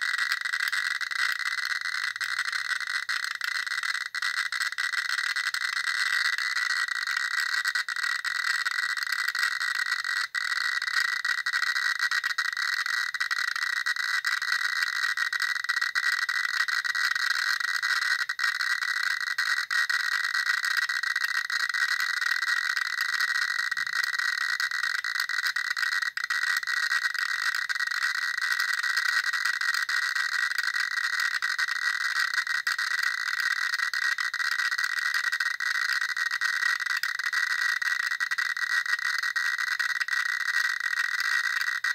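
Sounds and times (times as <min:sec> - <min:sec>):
geiger counter clicking rapidly: 0:00.0 - 0:41.9.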